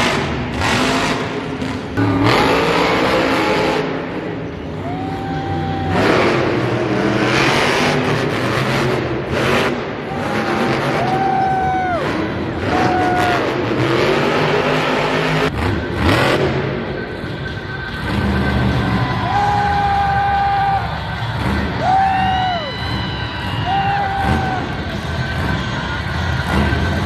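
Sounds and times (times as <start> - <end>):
monster truck engines revving: 0.0 - 27.0.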